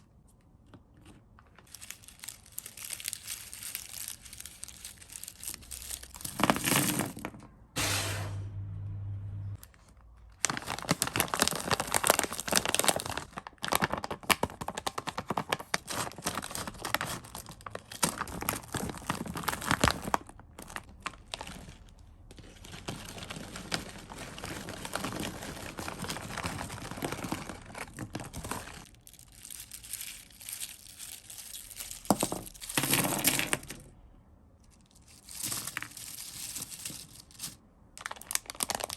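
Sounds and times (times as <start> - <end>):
plastic wrappers crinkling: 1.0 - 7.2, 9.6 - 33.8, 34.8 - 38.9
packaging tearing: 1.6 - 7.2, 10.4 - 33.6, 35.2 - 38.9.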